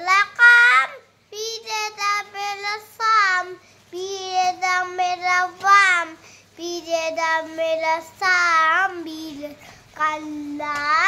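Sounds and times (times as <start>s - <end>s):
boy singing: 0.0s - 11.0s.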